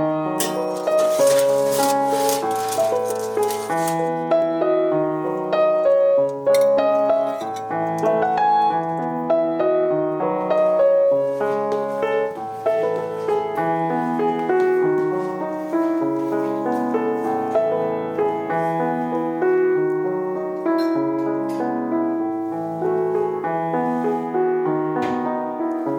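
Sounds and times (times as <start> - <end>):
gentle piano music: 0.0 - 25.9.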